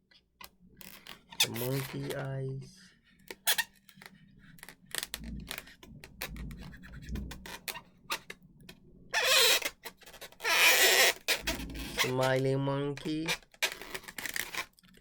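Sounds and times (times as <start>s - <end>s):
marker scratching on balloon: 0.8s - 2.2s, 2.8s - 12.4s, 13.2s - 14.7s.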